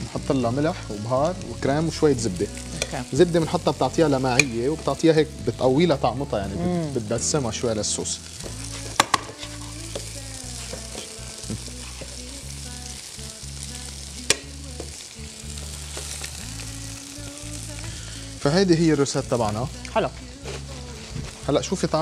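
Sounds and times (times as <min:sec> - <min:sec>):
vegetables sizzling in a pan: 0:00.0 - 0:22.0.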